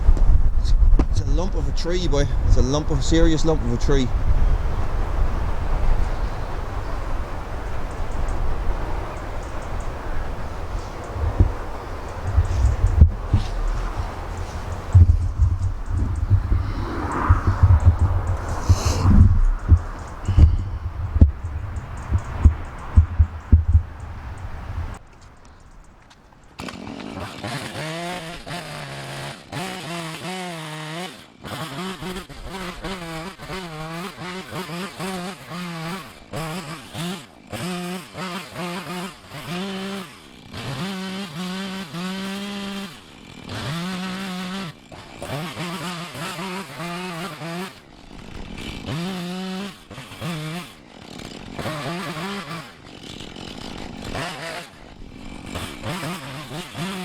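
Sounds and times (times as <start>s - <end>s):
chainsaw revving and idling: 1.2s - 57.0s.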